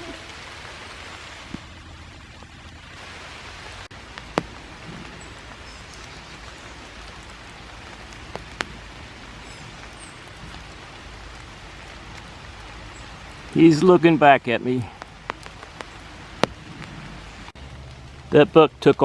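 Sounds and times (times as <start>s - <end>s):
light rain on leaves: 0.0s - 19.0s.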